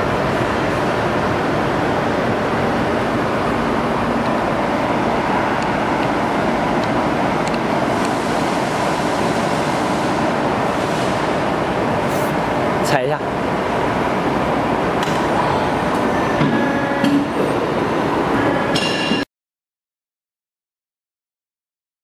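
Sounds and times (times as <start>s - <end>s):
workshop machinery noise: 0.0s - 19.3s.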